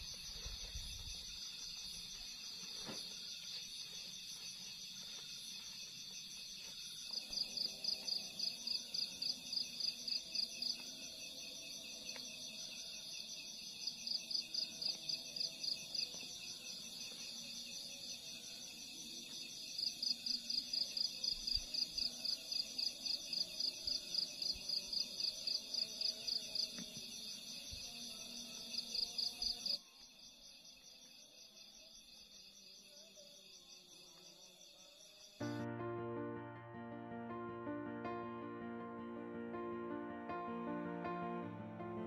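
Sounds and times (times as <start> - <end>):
insects trilling: 0.0 - 35.6.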